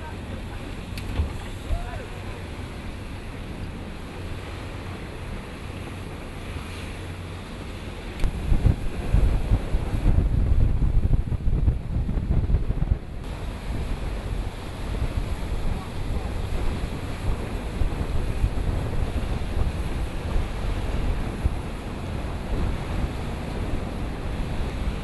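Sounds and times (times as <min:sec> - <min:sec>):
sea waves washing: 0:00.0 - 0:25.0
wind buffeting microphone: 0:00.0 - 0:25.0.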